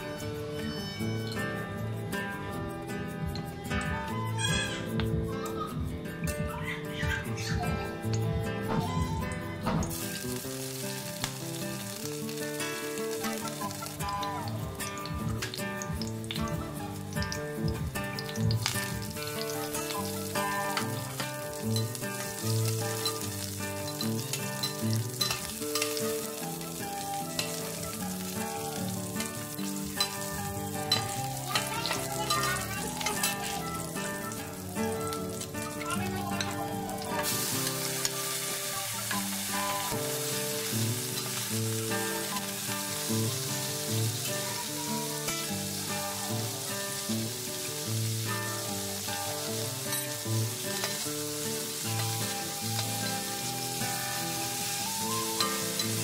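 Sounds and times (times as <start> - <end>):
soft background music: 0.0 - 56.0
food sizzling in oil: 7.0 - 56.0.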